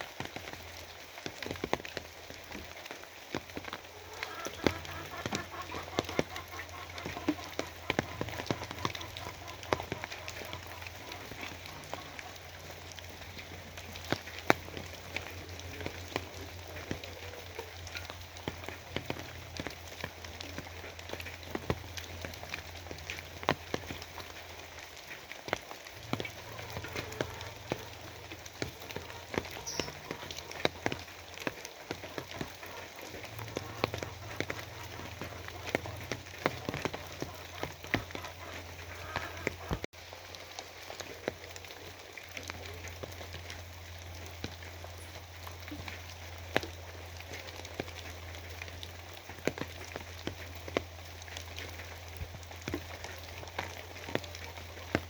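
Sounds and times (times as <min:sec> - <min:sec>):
downpour hiss: 0:00.0 - 0:55.0
rain drops tapping and dripping: 0:00.0 - 0:55.0.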